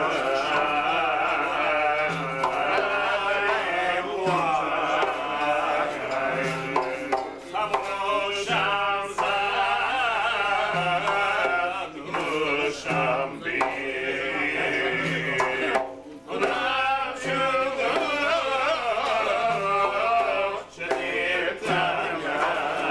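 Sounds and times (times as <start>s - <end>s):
man singing: 0.0s - 22.9s
plucked long-necked lutes: 0.0s - 22.9s.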